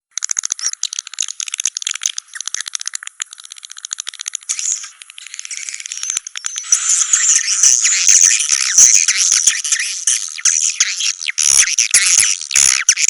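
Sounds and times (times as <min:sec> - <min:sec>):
swiftlet clicks and chirps: 0:00.1 - 0:13.0.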